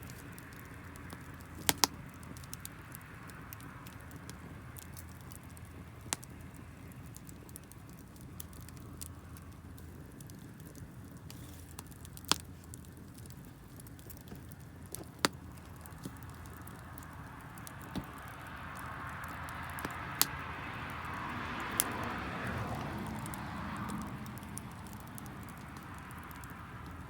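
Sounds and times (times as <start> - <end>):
fire hissing: 0.0 - 27.0
fire popping: 0.0 - 27.0
wood fire crackling: 0.0 - 27.0.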